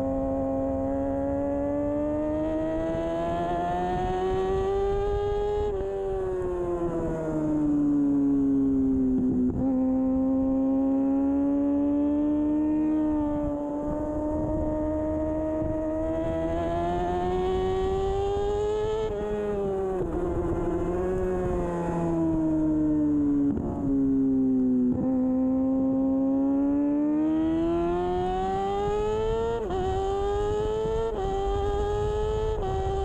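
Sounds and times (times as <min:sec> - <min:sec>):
motorcycle engine revving high: 0:00.0 - 0:33.0.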